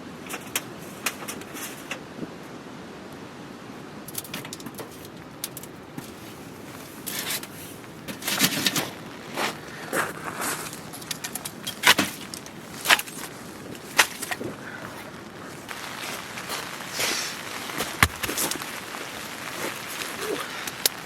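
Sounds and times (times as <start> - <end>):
steady background hiss: 0.0 - 21.0
camping gear rustling and clinking: 0.2 - 2.2, 4.0 - 21.0.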